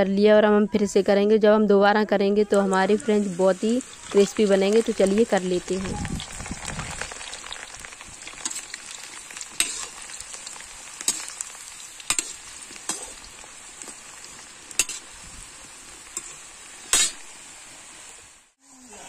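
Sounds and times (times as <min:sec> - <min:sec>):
fries sizzling in hot oil: 0:02.5 - 0:19.0.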